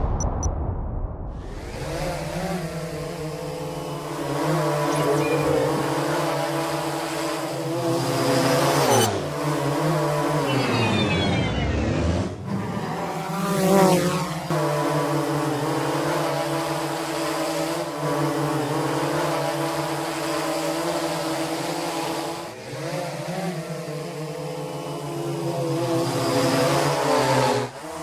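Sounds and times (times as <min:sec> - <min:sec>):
drone propellers buzzing: 0:01.4 - 0:27.1.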